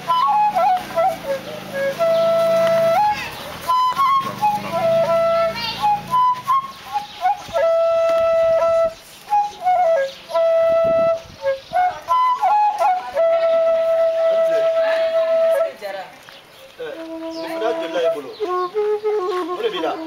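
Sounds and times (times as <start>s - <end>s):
solo flute melody: 0.0s - 16.1s, 16.8s - 20.0s.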